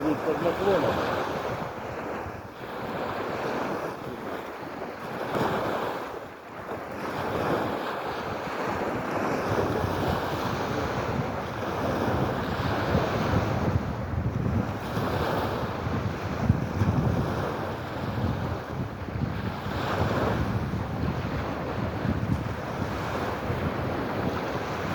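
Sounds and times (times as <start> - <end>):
sea waves washing in: 0.0 - 24.9
wind on microphone: 0.0 - 24.9.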